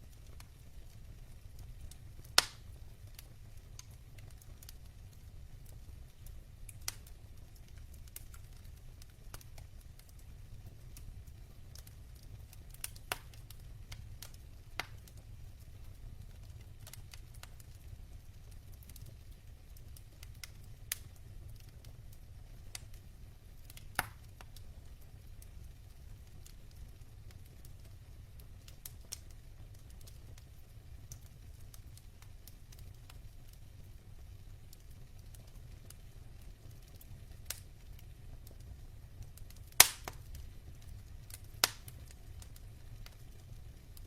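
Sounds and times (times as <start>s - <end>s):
logs burning and crackling: 0.0s - 44.0s.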